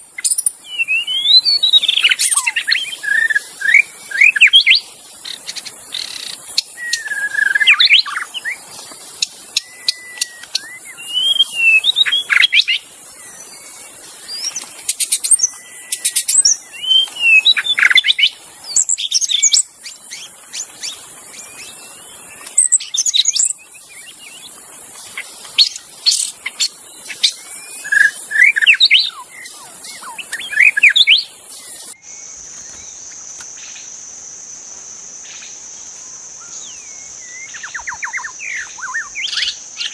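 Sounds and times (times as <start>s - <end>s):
high insect hiss: 0.0s - 39.9s
insect trill: 0.0s - 39.9s
bird singing whistled phrases: 0.2s - 4.9s, 6.0s - 8.6s, 9.5s - 20.3s, 20.9s - 24.4s, 25.6s - 32.8s, 36.5s - 39.9s.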